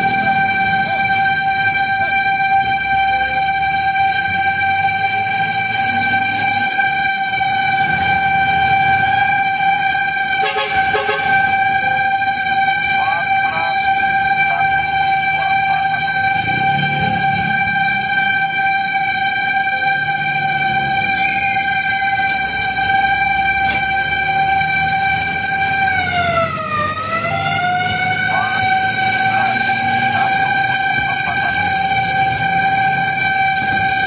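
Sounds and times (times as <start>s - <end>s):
fire truck siren steady tone: 0.0s - 34.0s
truck engine running: 0.0s - 34.0s.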